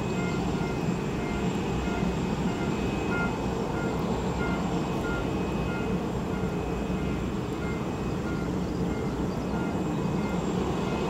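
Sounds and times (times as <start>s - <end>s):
low rumble of jet and machinery: 0.0s - 11.0s.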